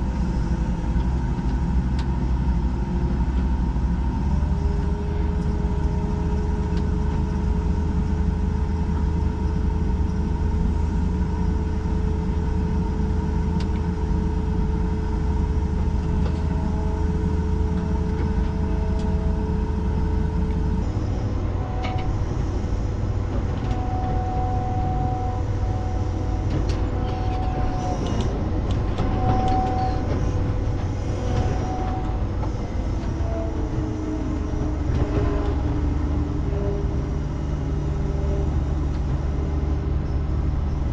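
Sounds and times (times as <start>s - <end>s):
farm machine engine droning: 0.0s - 40.9s.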